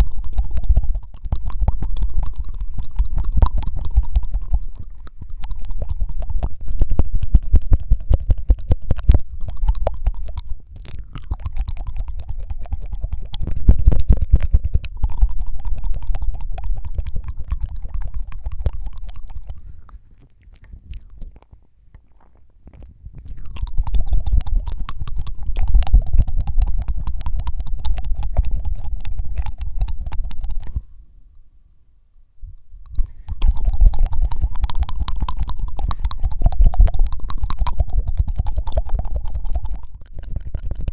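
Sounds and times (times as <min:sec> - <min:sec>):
tongue fluttering mouth clicks: 0:00.0 - 0:31.0, 0:32.5 - 0:40.9.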